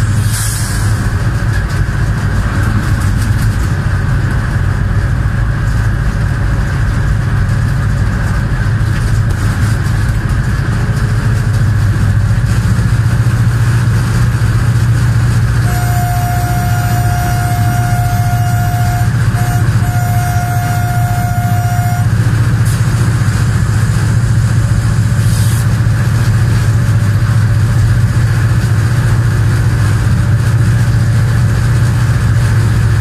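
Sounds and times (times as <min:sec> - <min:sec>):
locomotive engine hum: 0:00.0 - 0:33.0
train rolling on track: 0:00.0 - 0:33.0
wind: 0:00.0 - 0:33.0.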